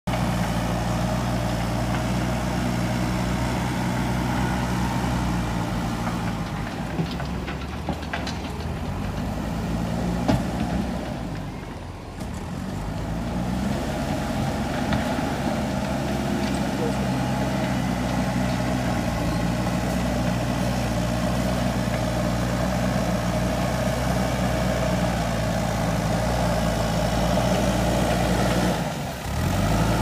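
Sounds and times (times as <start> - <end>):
diesel engine under load: 0.1 - 30.0.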